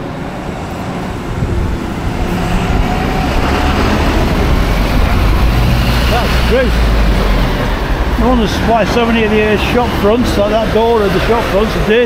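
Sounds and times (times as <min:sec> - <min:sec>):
heavy road traffic: 0:00.0 - 0:12.0
lorry engines running: 0:00.0 - 0:12.0.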